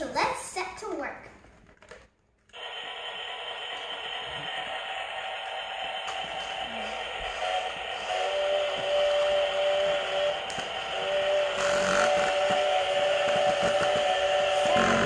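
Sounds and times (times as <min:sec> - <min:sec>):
toy chainsaw electronic engine sound: 0:02.6 - 0:15.0.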